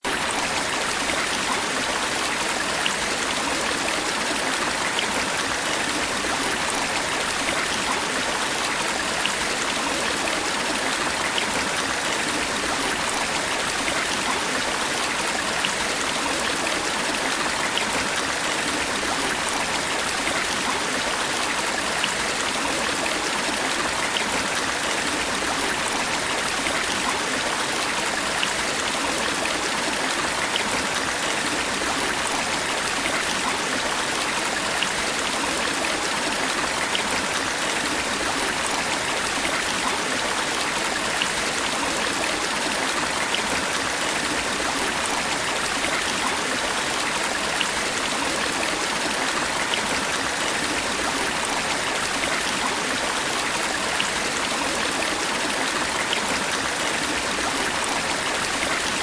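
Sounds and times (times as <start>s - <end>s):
stream water running over stones: 0.0s - 59.0s.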